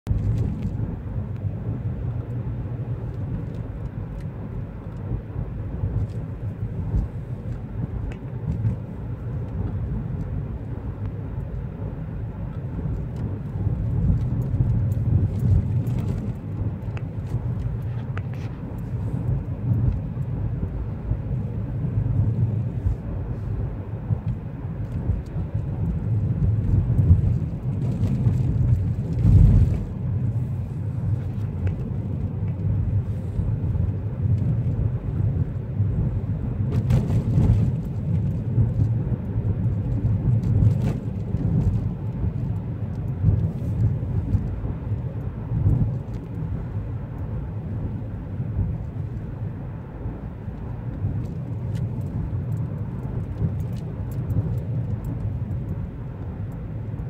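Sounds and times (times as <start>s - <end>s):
road and engine noise: 0.0s - 57.0s.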